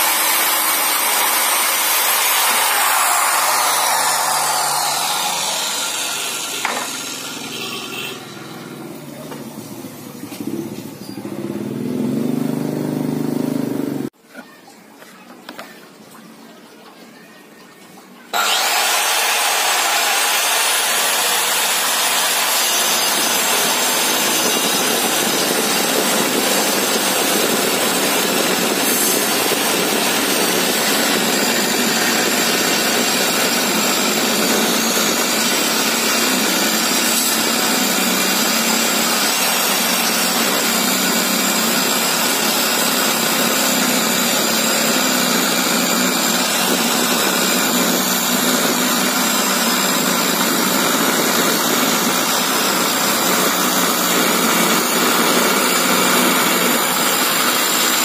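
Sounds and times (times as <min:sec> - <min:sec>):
circular saw cutting wood: 0:00.0 - 0:09.4, 0:18.3 - 0:58.0.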